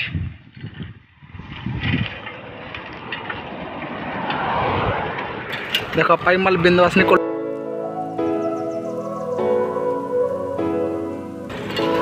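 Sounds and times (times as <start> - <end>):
steady road noise: 0.0 - 12.0
motor vehicle passing: 2.0 - 12.0.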